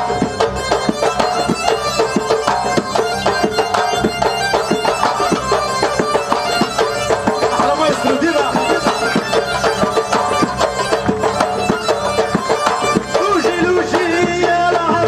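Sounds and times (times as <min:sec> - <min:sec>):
fast hand drum beat: 0:00.0 - 0:15.0
folk band melody over speakers: 0:00.0 - 0:15.0.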